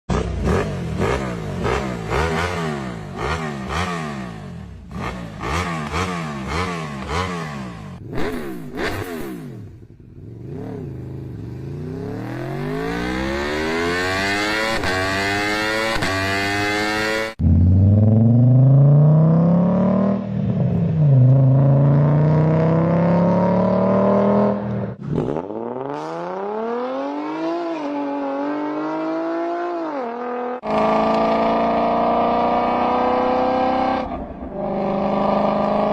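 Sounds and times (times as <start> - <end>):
engines revving: 0.1 - 35.9.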